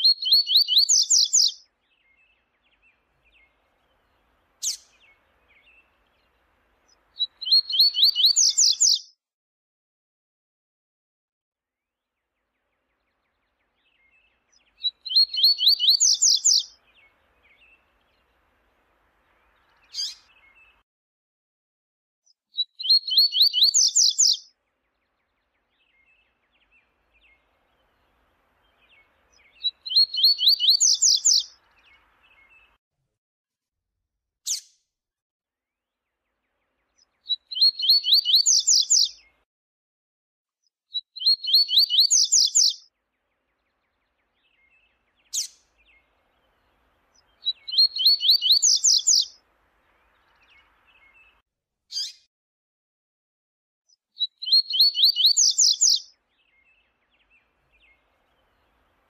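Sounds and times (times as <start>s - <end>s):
bird singing phrases: 0.0s - 9.1s, 12.0s - 20.8s, 22.2s - 32.8s, 35.9s - 39.4s, 40.6s - 52.3s, 53.9s - 59.0s.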